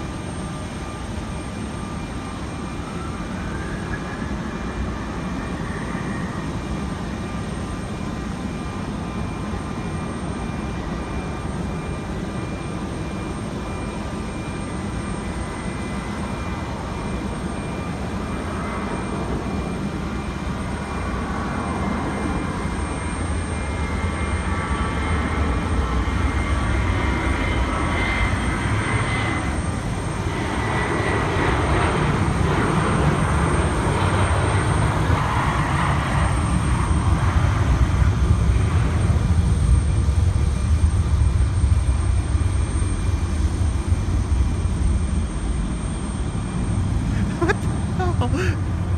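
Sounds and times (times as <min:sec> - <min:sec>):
airplane engines droning with whine: 0:00.0 - 0:48.9.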